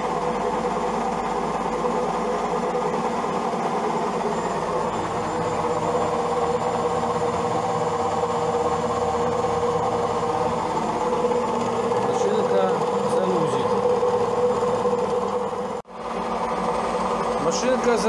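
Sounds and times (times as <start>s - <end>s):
washing machine spinning hum: 0.0s - 18.0s.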